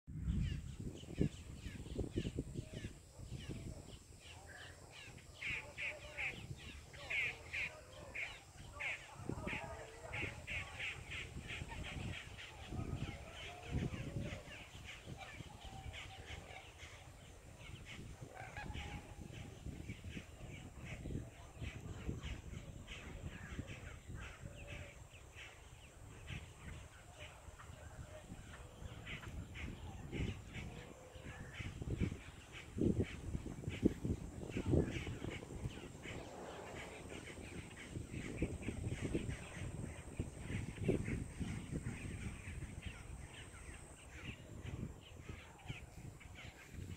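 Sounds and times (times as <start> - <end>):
birds calling: 0.3 - 46.9.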